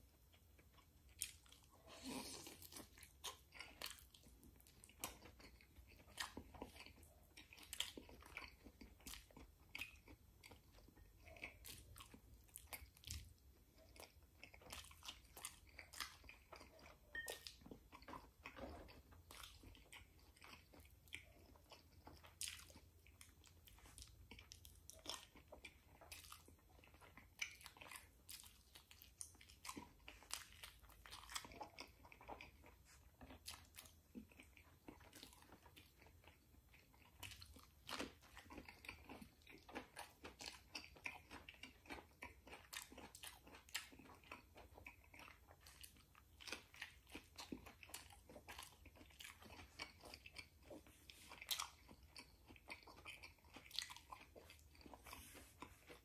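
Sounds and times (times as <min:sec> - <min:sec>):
close chewing with mouth smacks: 0:00.0 - 0:56.0.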